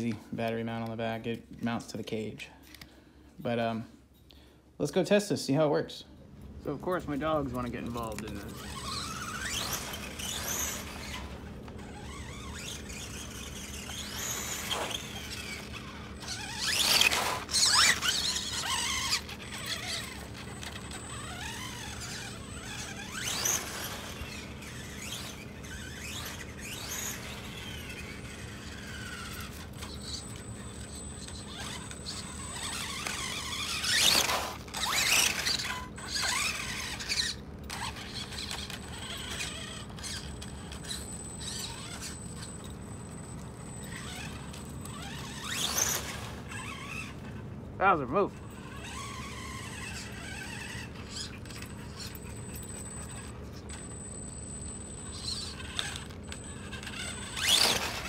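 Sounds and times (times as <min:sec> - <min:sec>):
electric motor whine: 0:06.7 - 0:58.0.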